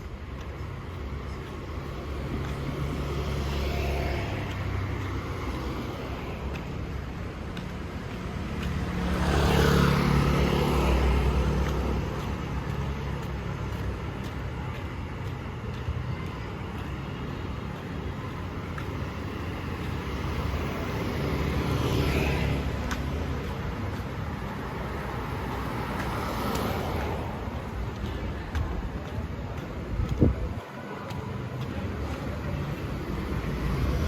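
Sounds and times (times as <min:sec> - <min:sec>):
steady traffic hum: 0:00.0 - 0:34.0.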